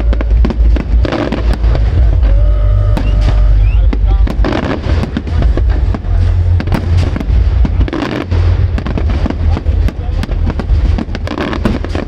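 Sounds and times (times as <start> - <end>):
continuous low rumble: 0.0 - 12.0
fireworks bangs and crackles: 0.0 - 12.0.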